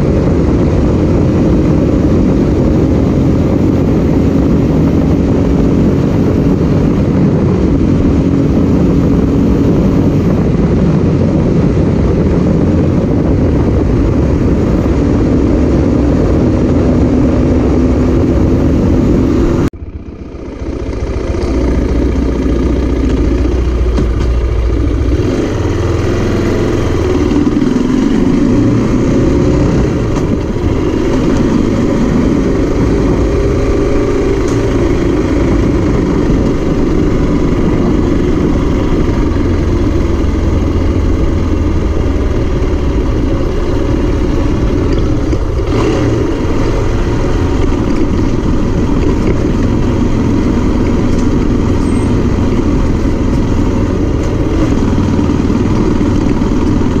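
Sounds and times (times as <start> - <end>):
wind on microphone: 0.0 - 19.8, 21.0 - 57.0
motorcycle engine running: 0.0 - 57.0.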